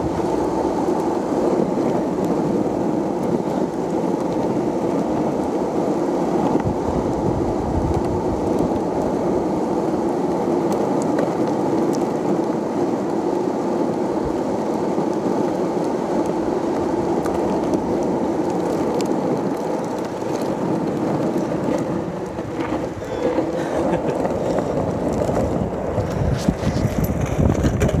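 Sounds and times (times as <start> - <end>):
skateboard wheels rolling on asphalt: 0.0 - 28.0
wind buffeting microphone: 0.0 - 28.0.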